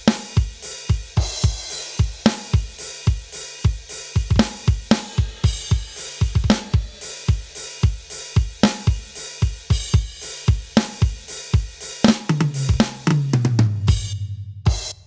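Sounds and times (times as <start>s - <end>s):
electronic drum kit rock groove: 0.0s - 15.0s
tom fill: 0.1s - 15.0s.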